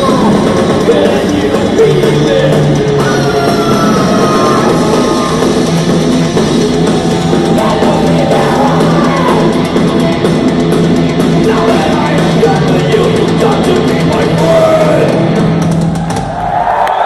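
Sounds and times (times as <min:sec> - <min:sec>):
live heavy metal band: 0:00.0 - 0:16.6.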